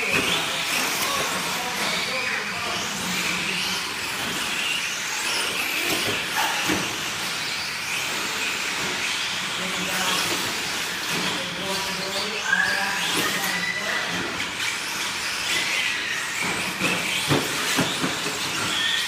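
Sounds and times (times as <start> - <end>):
rc truck electric motors whining: 0.0 - 19.0.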